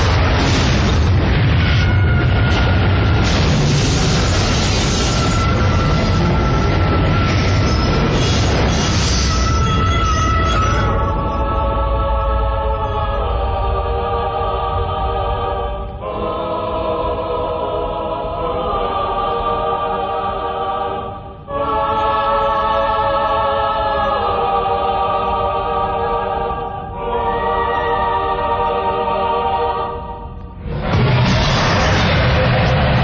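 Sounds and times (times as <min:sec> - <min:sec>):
choir singing held chords: 0:03.9 - 0:33.0.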